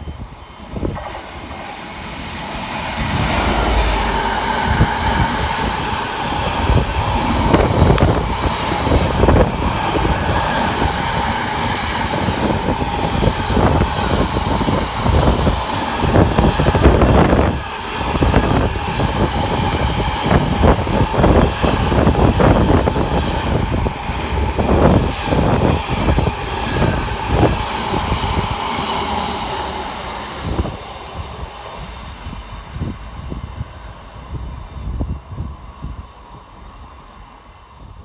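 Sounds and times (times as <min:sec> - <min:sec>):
diesel locomotive rumble: 0:00.0 - 0:38.0.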